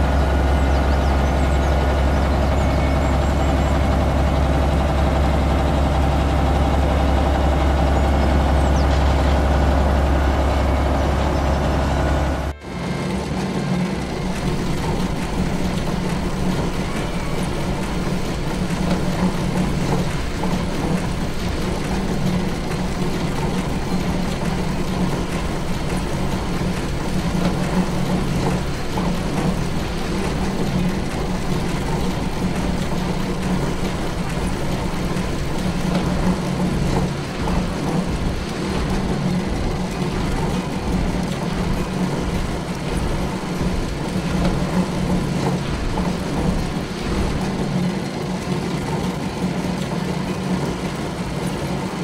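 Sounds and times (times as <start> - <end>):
machinery clatter: 0.0 - 52.0
machinery low hum: 0.0 - 52.0.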